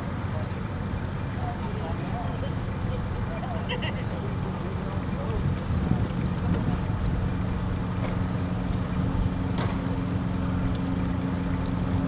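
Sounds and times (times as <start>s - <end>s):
low boat motor hum: 0.0s - 12.0s
wind rumbling on microphone: 0.0s - 12.0s.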